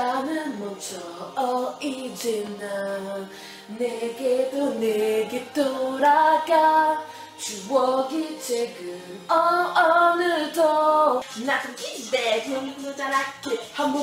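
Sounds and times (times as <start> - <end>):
person singing a pop melody: 0.0 - 14.0
quiet backing music: 0.0 - 14.0.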